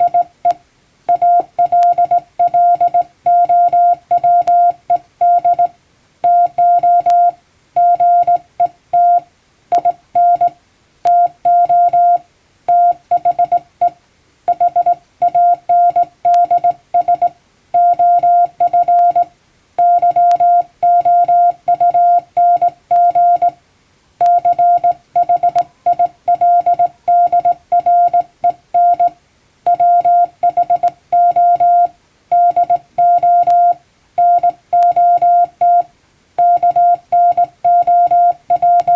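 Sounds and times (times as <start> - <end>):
morse code beeps: 0.0 - 23.6, 24.2 - 38.9.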